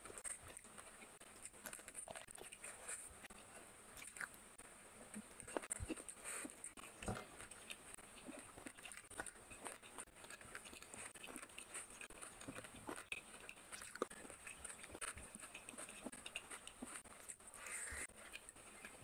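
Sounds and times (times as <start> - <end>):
faint steady hiss: 0.0 - 19.0
wet chewing and lip smacks: 0.0 - 19.0.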